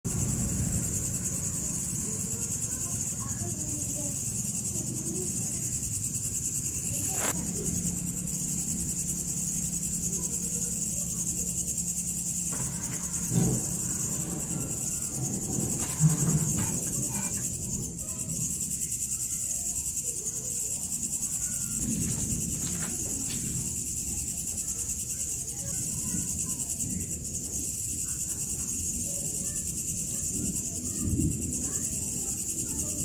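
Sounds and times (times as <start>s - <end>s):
crickets chirring: 0.0s - 33.0s.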